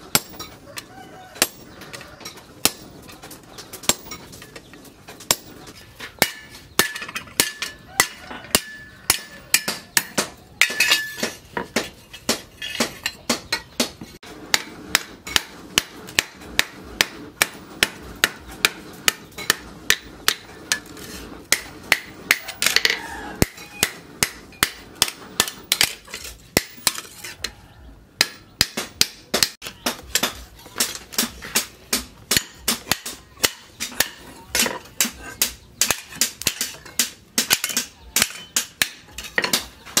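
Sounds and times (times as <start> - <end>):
hammer striking metal on anvil: 6.2 - 27.1, 28.2 - 40.0.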